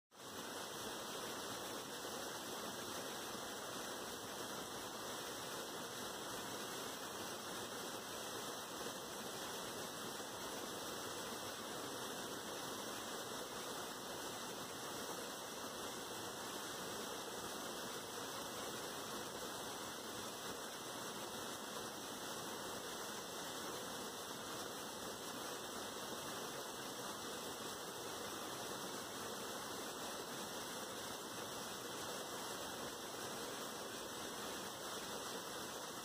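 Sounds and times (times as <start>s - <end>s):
steady hiss: 0.1s - 36.0s.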